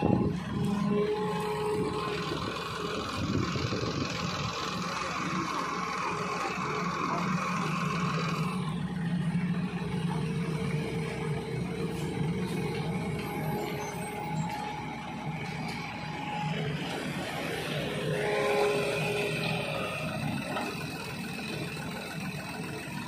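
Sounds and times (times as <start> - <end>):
excavator diesel engine: 0.0 - 23.0.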